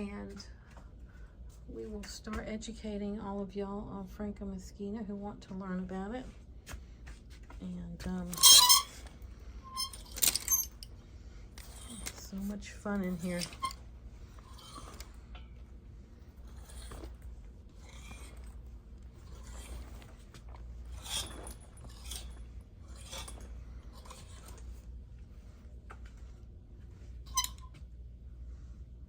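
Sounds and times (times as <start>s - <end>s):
low steady hum: 0.0s - 29.0s
soft rustling and shuffling: 5.2s - 29.0s.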